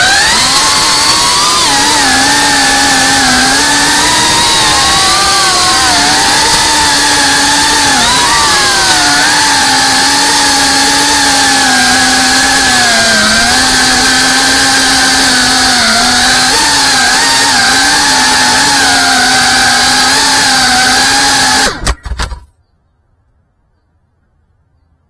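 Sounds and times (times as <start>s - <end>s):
quadcopter motors whining: 0.0s - 22.4s.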